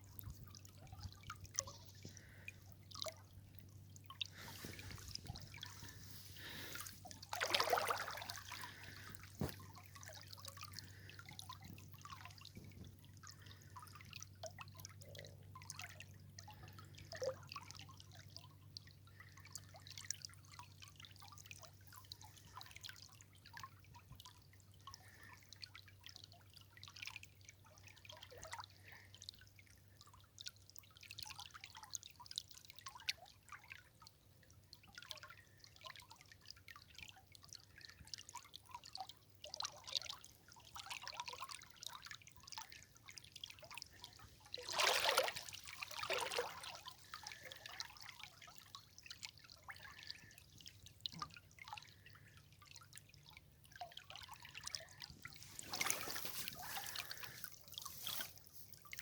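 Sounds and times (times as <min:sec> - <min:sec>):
river water trickling over stones: 0:00.0 - 0:59.0
water drips and splashes: 0:00.0 - 0:59.0.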